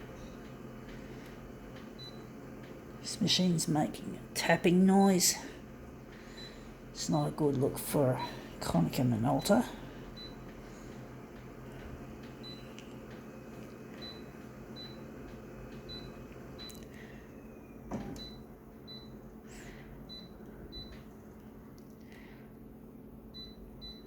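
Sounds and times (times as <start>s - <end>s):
office copier humming: 0.0s - 21.4s.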